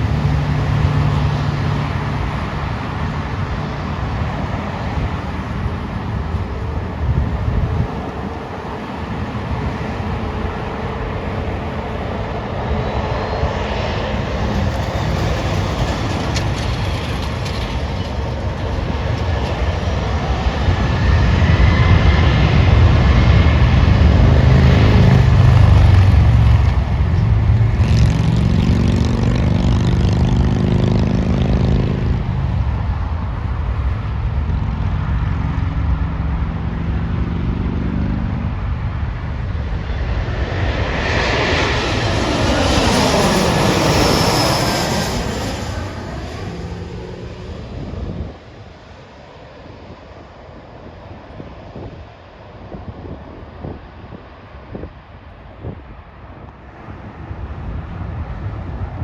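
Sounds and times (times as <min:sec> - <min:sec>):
jet airliner passing by: 0:00.0 - 0:59.0.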